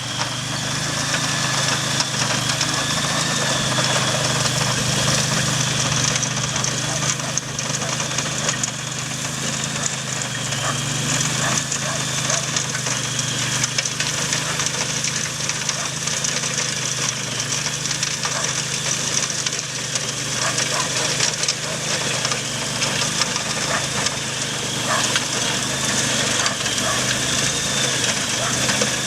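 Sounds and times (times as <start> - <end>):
garden tiller engine running: 0.0 - 29.0.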